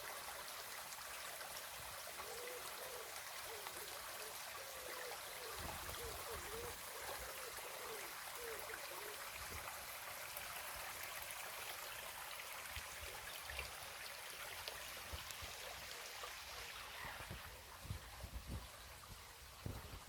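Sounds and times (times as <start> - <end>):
river water running: 0.0 - 20.0.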